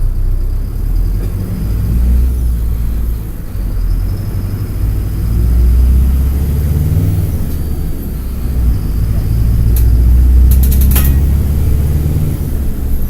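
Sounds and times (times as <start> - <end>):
bus diesel engine rumbling: 0.0 - 13.0.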